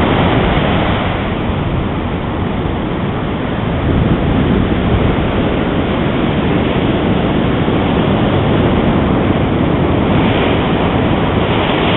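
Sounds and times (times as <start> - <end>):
surf washing on beach: 0.0 - 11.9
wind on microphone: 0.0 - 11.9.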